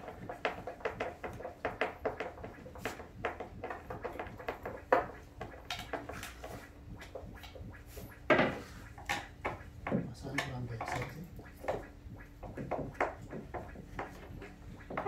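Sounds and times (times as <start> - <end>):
knocks on wooden cabinets: 0.0 - 6.2, 8.3 - 11.0, 11.6 - 15.0.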